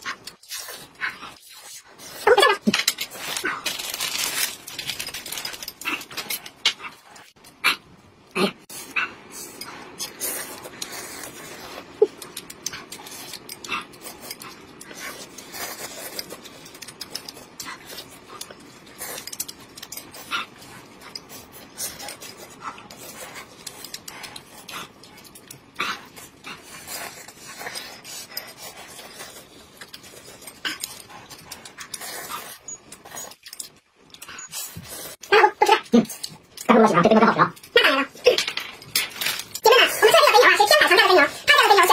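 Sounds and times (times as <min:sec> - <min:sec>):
chewing: 0:00.0 - 0:07.8, 0:08.7 - 0:40.1.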